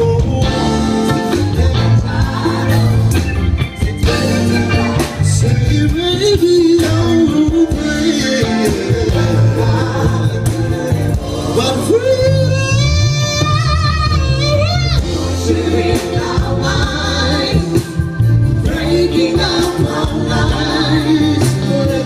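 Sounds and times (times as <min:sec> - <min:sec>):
live band playing: 0:00.0 - 0:22.0
several vocalists singing: 0:00.0 - 0:22.0.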